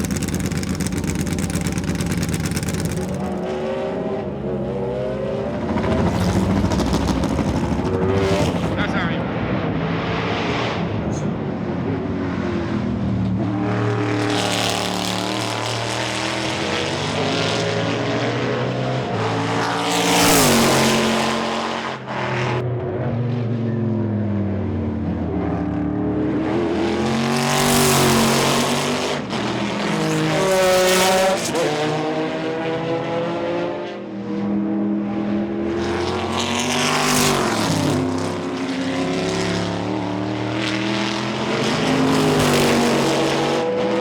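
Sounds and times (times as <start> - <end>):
racing car engine: 0.0 - 44.0.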